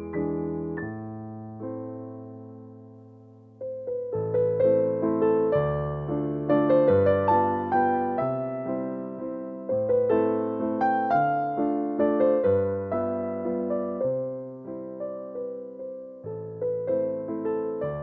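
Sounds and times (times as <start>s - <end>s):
solo piano waltz: 0.0s - 18.0s.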